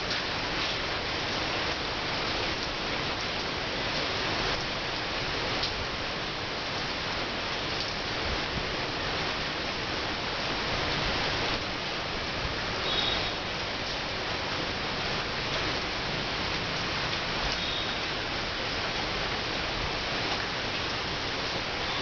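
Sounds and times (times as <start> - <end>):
rain pouring on paving: 0.0 - 22.0.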